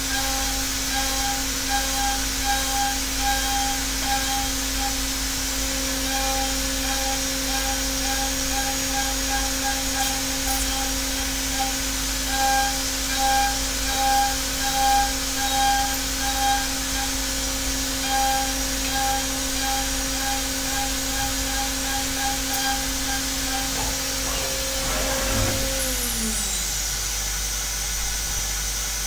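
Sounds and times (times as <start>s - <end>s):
machine tone: 0.1s - 26.9s.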